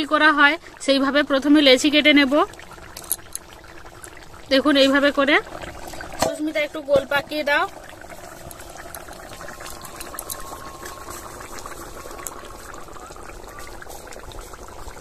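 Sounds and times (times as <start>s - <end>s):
curry simmering with small pops: 0.0s - 15.0s.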